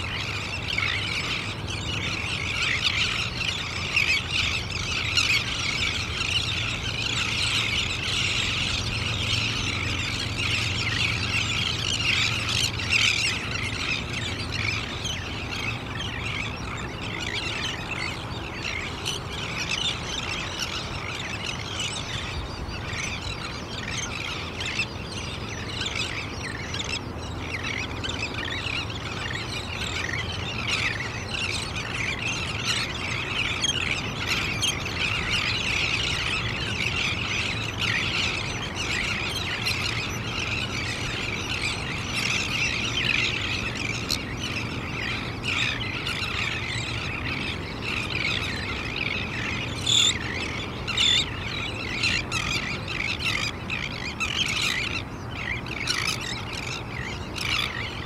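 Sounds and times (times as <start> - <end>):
seabird flock squealing: 0.0 - 58.0.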